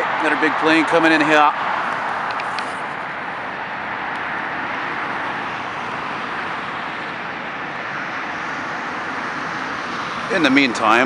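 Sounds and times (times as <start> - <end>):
highway traffic roar: 0.0 - 11.0.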